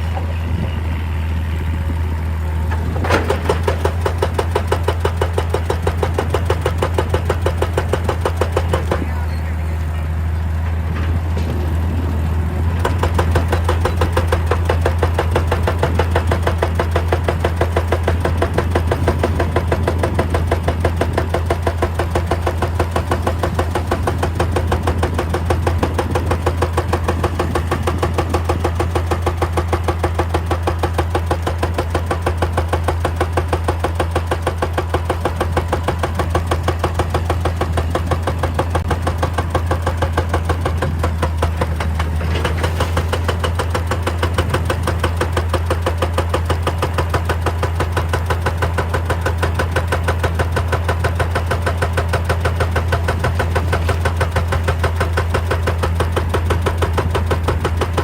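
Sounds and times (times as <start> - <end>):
diesel engine droning: 0.0 - 58.0
hydraulic breaker hammering rock: 2.7 - 9.7, 10.5 - 58.0.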